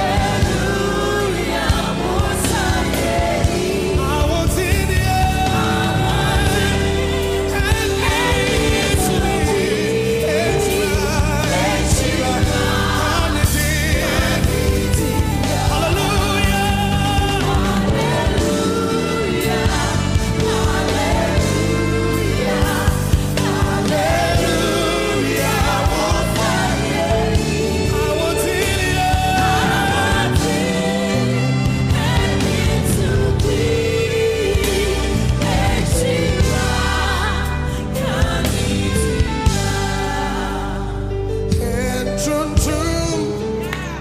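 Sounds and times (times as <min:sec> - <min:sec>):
gospel voices singing: 0:00.0 - 0:44.0.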